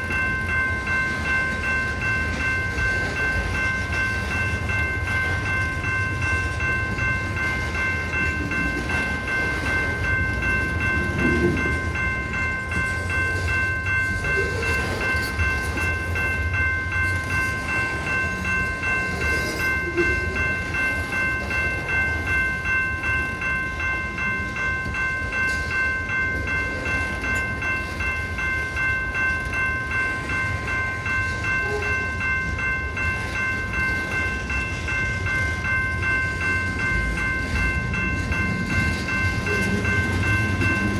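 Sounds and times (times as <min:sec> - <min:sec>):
crossing bell ringing: 0:00.0 - 0:40.9
train rumbling past: 0:00.0 - 0:40.9.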